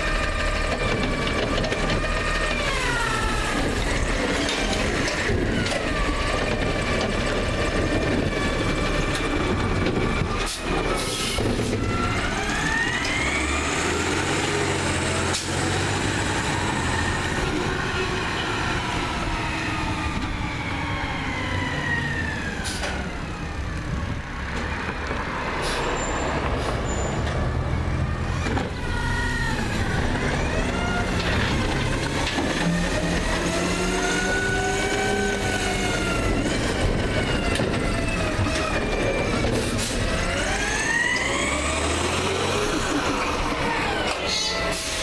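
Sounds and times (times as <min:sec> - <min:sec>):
truck engine and hydraulics whining: 0:00.0 - 0:45.0.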